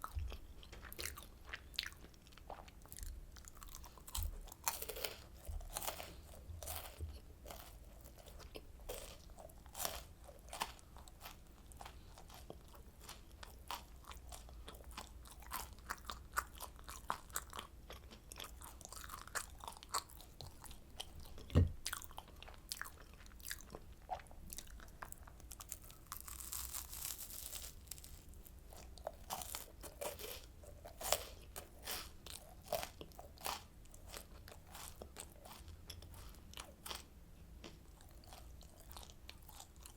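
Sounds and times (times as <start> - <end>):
crunching and chewing candy: 0.0 - 39.9.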